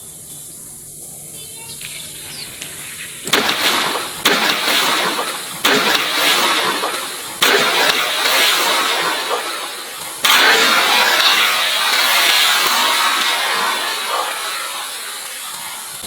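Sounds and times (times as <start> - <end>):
air pump rushing air: 0.0 - 16.0.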